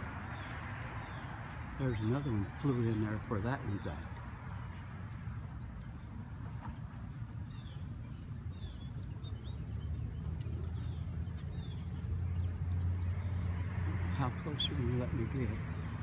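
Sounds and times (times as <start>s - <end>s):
road traffic rumble: 0.0s - 16.0s
small birds chirping: 0.0s - 16.0s.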